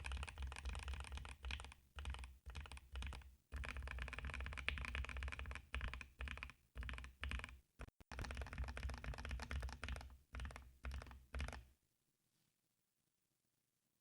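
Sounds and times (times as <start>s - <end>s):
mechanical keyboard typing: 0.0s - 11.7s.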